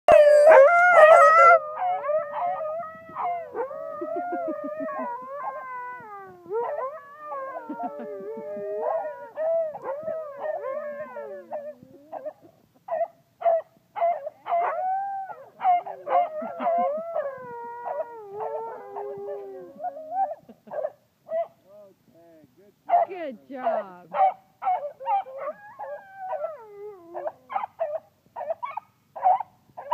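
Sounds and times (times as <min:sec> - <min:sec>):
dogs howling: 0:00.1 - 0:21.5, 0:23.6 - 0:28.6.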